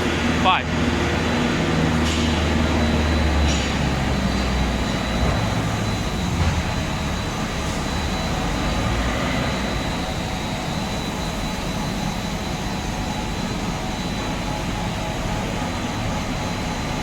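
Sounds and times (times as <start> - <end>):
factory machinery drone: 0.0 - 17.0.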